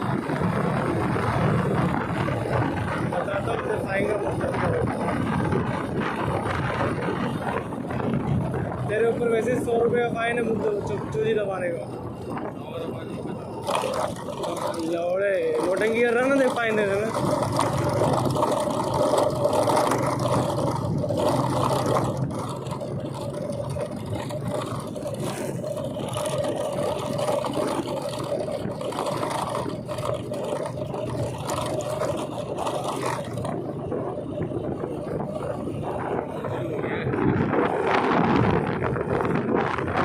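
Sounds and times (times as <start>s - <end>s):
motorcycle engine running: 0.0s - 40.0s
road noise: 0.0s - 40.0s.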